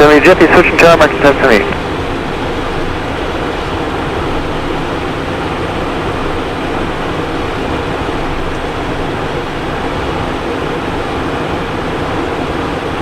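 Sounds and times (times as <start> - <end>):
airflow over aircraft: 0.0 - 13.0
jet engines humming: 0.0 - 13.0.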